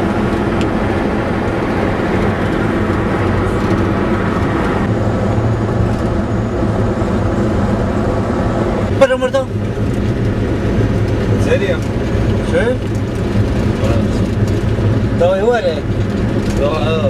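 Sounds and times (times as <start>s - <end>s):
road noise: 0.0s - 17.0s
vehicle engine hum: 0.0s - 17.0s.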